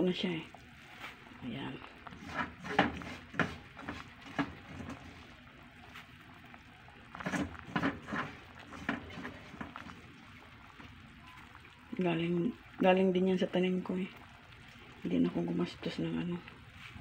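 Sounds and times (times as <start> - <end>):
faint liquid sounds: 0.0 - 17.0.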